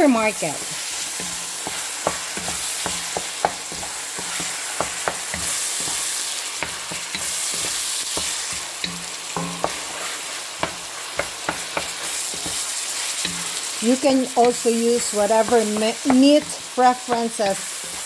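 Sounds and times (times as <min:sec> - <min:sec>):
meat sizzling in a wok: 0:00.0 - 0:18.0
wooden spatula scraping and tapping: 0:00.5 - 0:18.0.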